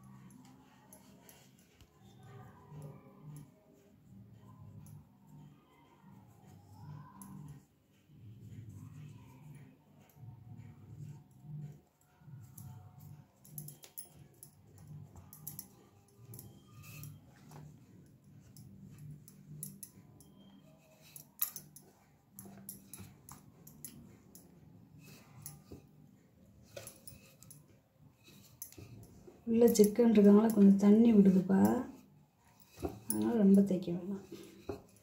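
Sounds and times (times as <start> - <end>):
rolling pin strokes on dough: 0.0 - 35.0.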